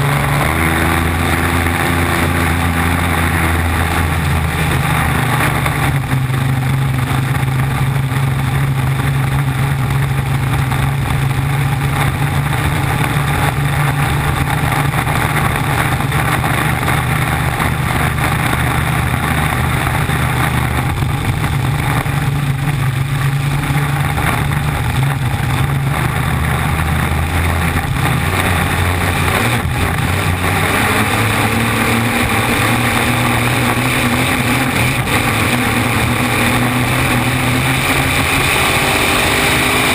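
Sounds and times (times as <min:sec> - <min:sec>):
race boat engine drone: 0:00.0 - 0:39.9.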